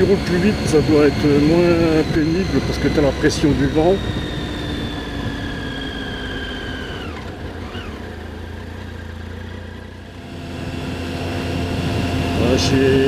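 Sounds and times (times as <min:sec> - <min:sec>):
motorcycle engine whine: 0:00.0 - 0:13.0.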